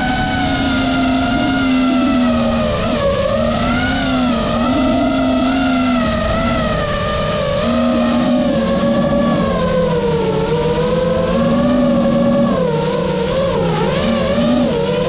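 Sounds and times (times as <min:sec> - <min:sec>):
quadcopter propeller whine: 0:00.0 - 0:15.0.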